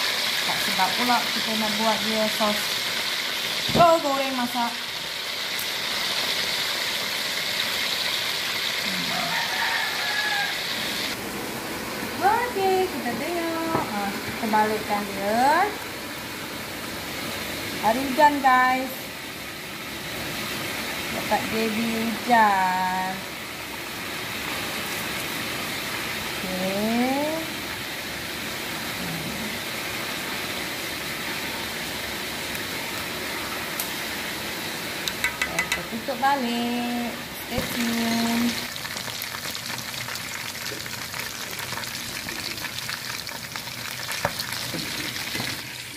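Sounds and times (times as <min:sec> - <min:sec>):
oil sizzling in deep frying: 0:00.0 - 0:11.2, 0:12.1 - 0:45.9.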